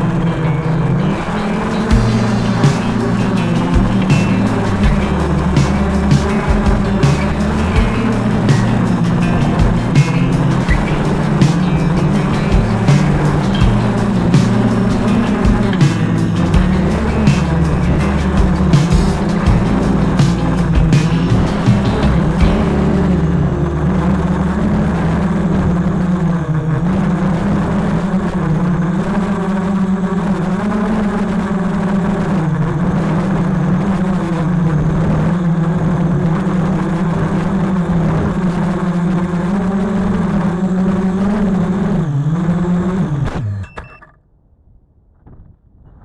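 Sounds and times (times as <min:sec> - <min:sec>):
drone motors whining: 0:00.0 - 0:44.2.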